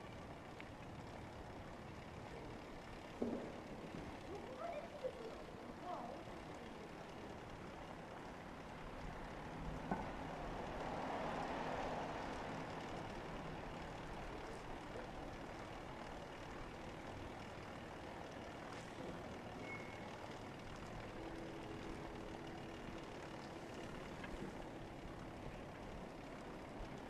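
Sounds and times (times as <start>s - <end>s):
distant road traffic hum: 0.0s - 27.0s.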